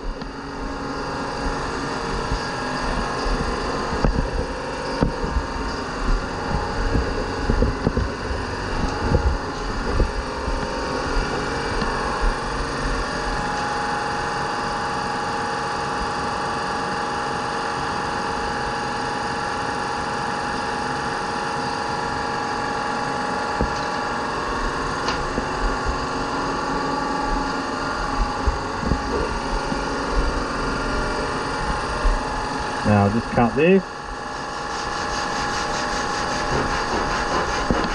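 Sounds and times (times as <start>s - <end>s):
workshop motor droning: 0.0s - 37.9s.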